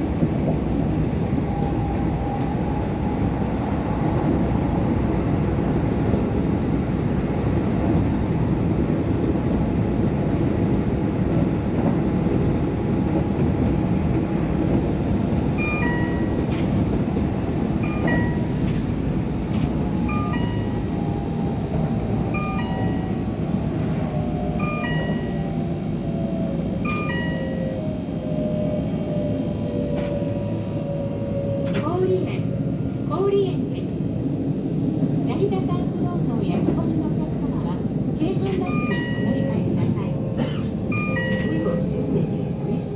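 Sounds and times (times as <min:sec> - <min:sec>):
train wheels and motors rumbling: 0:00.0 - 0:42.9.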